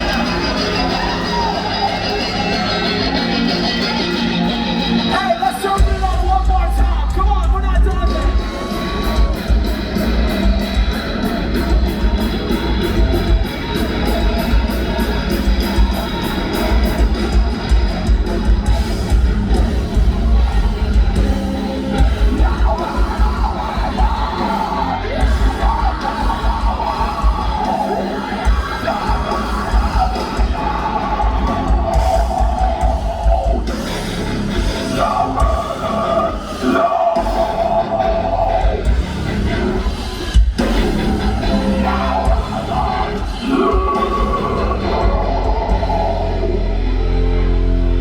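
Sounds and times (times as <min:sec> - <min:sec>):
live rock band playing: 0:00.0 - 0:48.0
sung and yelled vocals: 0:00.0 - 0:48.0.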